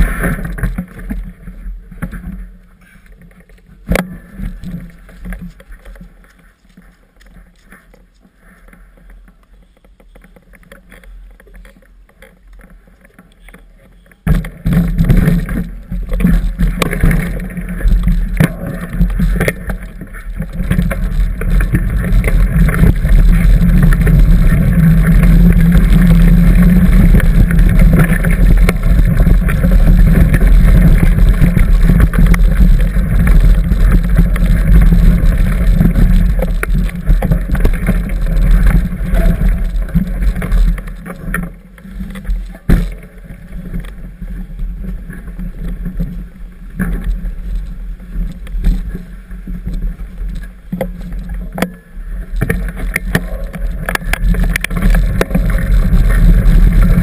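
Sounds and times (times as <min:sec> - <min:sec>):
bike rattling over trail: 0:00.0 - 0:57.0.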